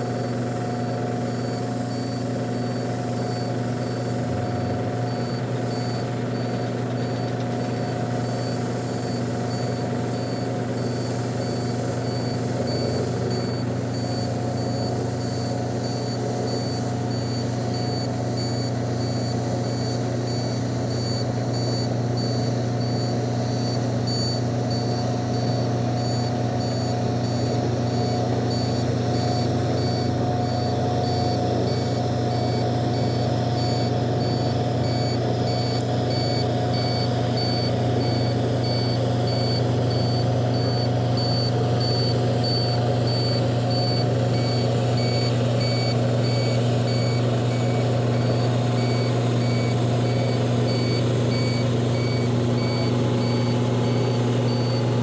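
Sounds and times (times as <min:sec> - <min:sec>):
truck engine humming: 0:00.0 - 0:55.0
truck reversing alarm beeping: 0:00.0 - 0:55.0.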